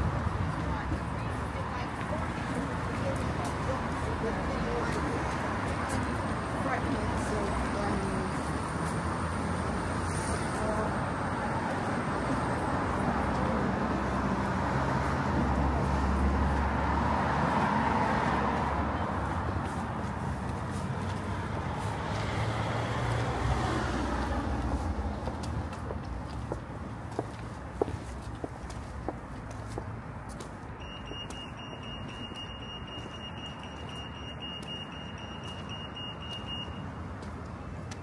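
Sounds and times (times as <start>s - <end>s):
passing cars: 0.0s - 38.0s.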